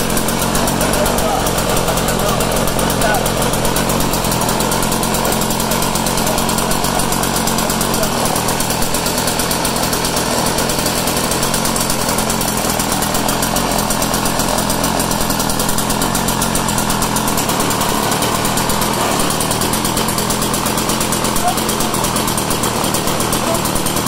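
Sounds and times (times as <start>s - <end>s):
snowblower engine running: 0.0s - 24.0s.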